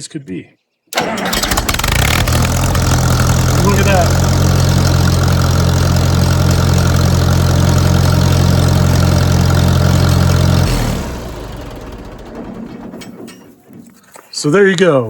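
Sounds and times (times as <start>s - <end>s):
tractor engine idling: 1.0s - 14.6s.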